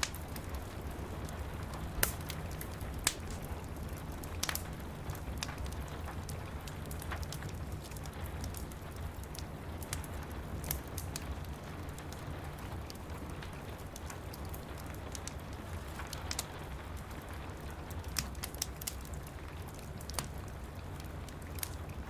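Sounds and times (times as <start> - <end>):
rain pattering: 0.0 - 22.0
wood fire crackling: 0.0 - 22.0.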